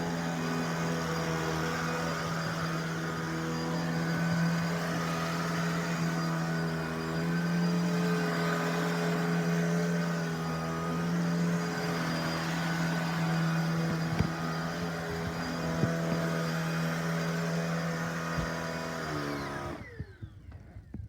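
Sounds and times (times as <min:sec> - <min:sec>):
vacuum cleaner motor hum: 0:00.0 - 0:21.0.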